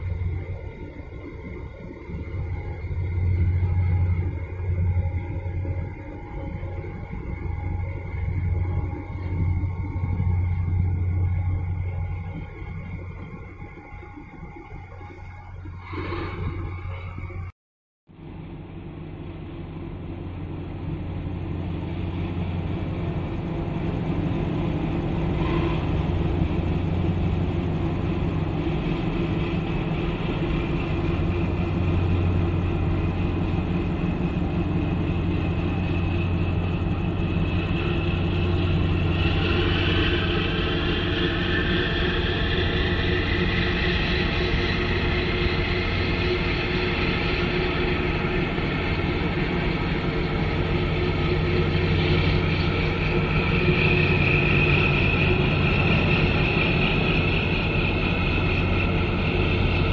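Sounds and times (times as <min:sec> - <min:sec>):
ship engines low hum: 0:00.0 - 0:17.5, 0:18.1 - 0:59.9.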